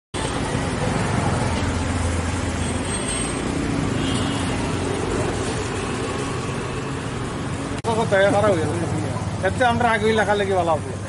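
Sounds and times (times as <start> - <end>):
traffic rumble: 0.2 - 11.0.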